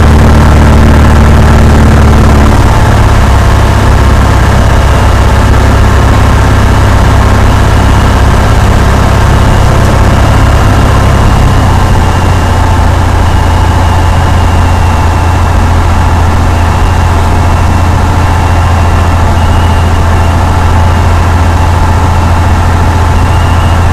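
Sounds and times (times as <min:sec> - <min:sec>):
propeller plane engine drone: 0:00.0 - 0:23.9.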